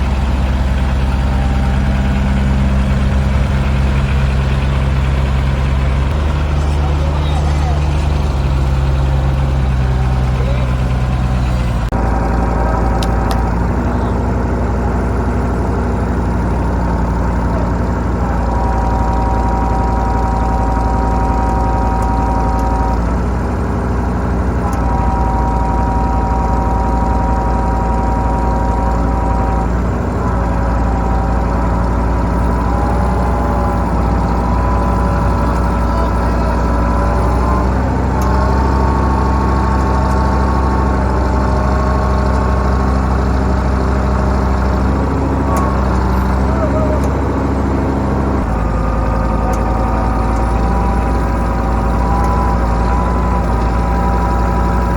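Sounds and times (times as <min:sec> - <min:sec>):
tractor diesel engines running: 0:00.0 - 0:54.9.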